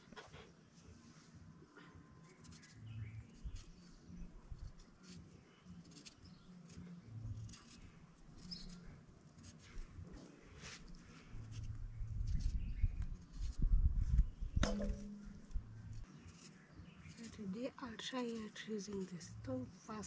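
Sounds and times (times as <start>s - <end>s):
knife peeling potatoes: 2.2s - 19.4s.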